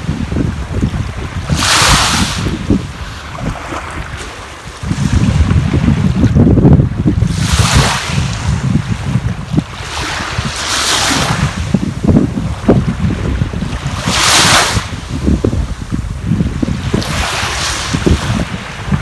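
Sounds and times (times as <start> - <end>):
sea waves washing in: 0.0 - 19.0
wind buffeting microphone: 0.0 - 19.0.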